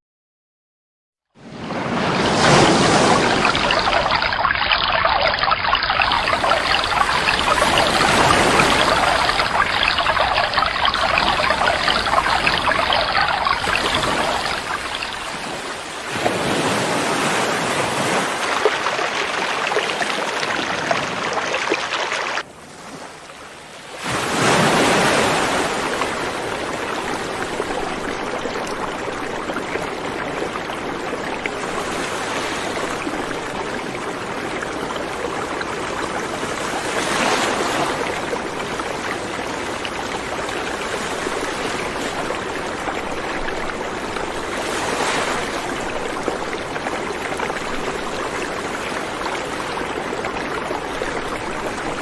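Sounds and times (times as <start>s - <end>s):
river water rushing and splashing: 1.8s - 52.0s.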